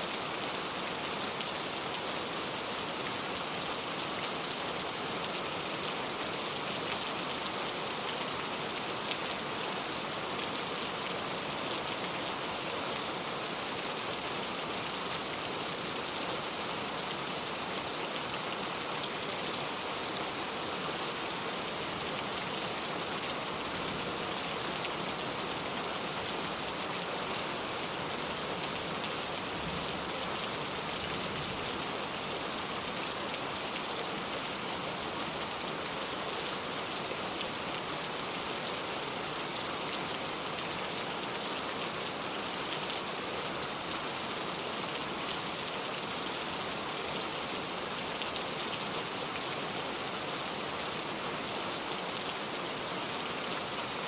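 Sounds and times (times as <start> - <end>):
heavy rain pouring: 0.4 - 54.0.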